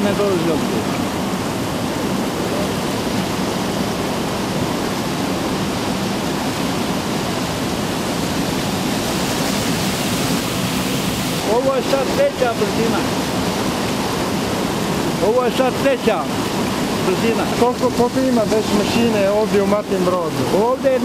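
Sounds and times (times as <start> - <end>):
water rushing into wooden tub: 0.0 - 21.0.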